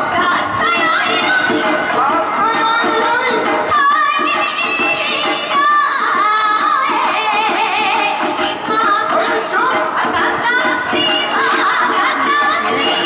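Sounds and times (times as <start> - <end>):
person singing with vibrato: 0.0 - 13.0
plucked lutes: 0.0 - 13.0.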